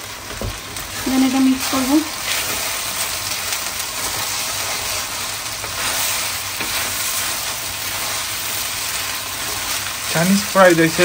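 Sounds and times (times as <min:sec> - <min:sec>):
rice sizzling in a wok: 0:00.0 - 0:11.0
spatula scraping a pan: 0:01.6 - 0:11.0.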